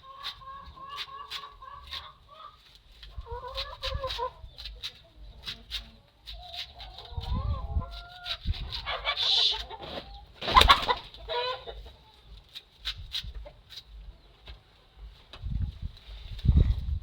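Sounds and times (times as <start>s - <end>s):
chickens clucking: 0.0s - 12.6s, 13.2s - 14.6s.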